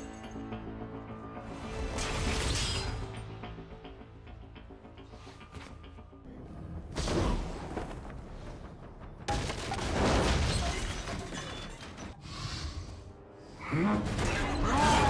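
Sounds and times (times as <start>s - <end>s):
dramatic film score: 0.0s - 15.0s.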